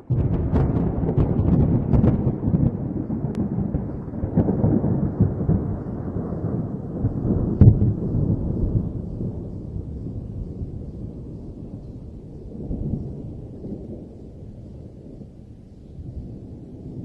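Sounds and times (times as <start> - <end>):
thunder crack: 0.0 - 14.2
thunder rumbling: 0.0 - 17.0.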